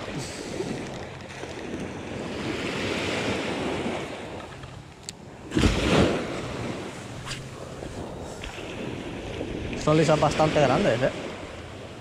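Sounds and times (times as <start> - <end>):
sea waves washing onto beach: 0.0 - 12.0.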